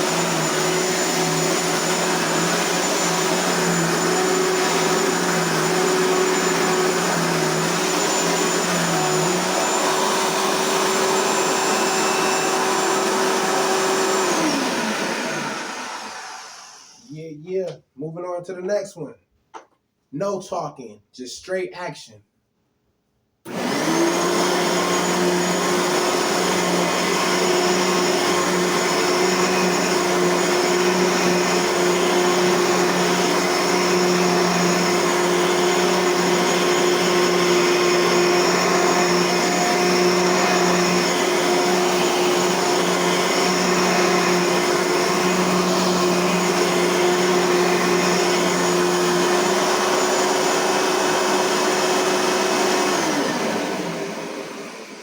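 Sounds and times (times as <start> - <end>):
vacuum cleaner motor whine: 0.0 - 17.1, 23.5 - 55.0.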